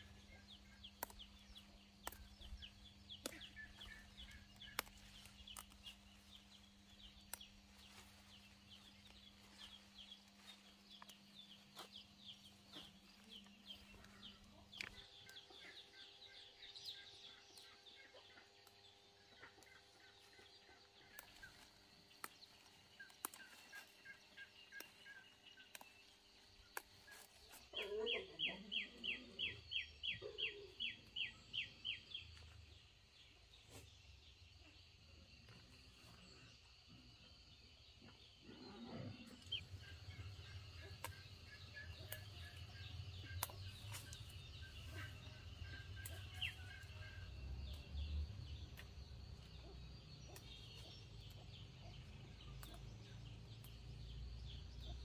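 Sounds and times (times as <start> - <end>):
bird calls and chirps: 0.0 - 55.0.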